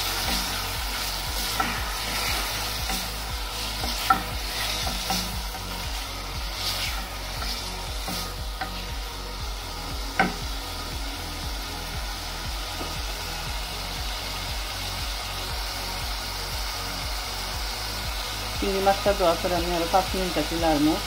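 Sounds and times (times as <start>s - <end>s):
prawns and onions sizzling: 0.0s - 21.0s.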